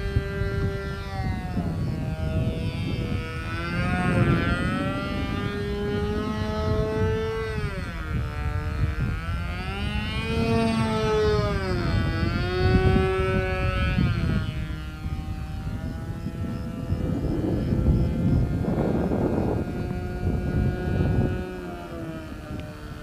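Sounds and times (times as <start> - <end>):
low steady rumble: 0.0 - 23.0
model airplane engine buzzing: 0.0 - 23.0.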